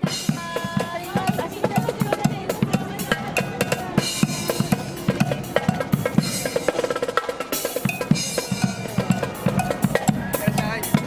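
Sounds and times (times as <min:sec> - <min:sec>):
marching band playing: 0:00.0 - 0:11.0
snare and bass drums beating: 0:00.0 - 0:11.0.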